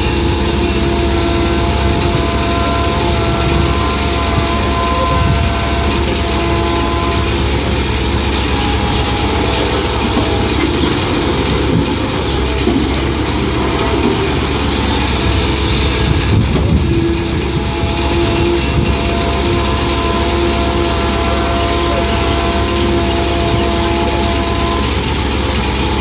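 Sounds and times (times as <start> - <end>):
excavator diesel engine running: 0.0 - 26.0
whine of steady tones: 0.0 - 26.0.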